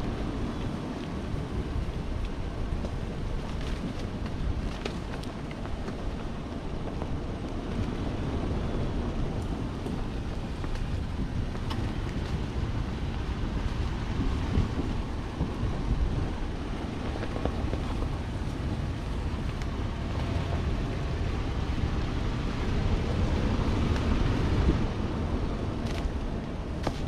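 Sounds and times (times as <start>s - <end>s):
vehicle rumble on dirt trail: 0.0s - 27.0s
wind buffeting microphone: 0.0s - 27.0s.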